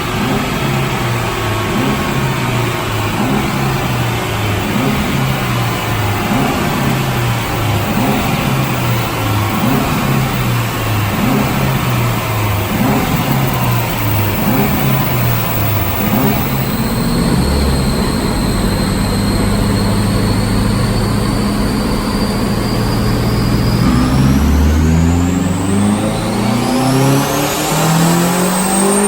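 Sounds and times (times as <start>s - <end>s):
car engine revving: 0.0s - 29.0s
turbo whine: 0.0s - 29.0s.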